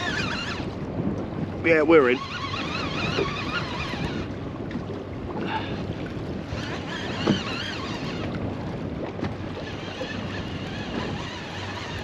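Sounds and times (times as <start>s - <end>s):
choppy water: 0.0s - 12.0s
wind buffeting microphone: 0.0s - 12.0s.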